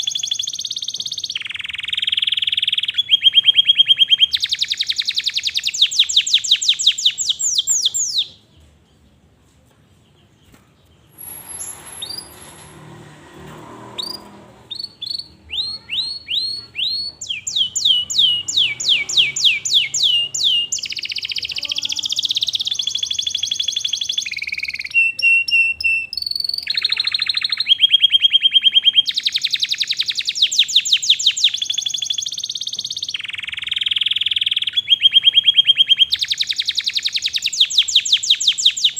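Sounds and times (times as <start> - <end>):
canary singing trills: 0.0 - 9.0, 13.9 - 38.9.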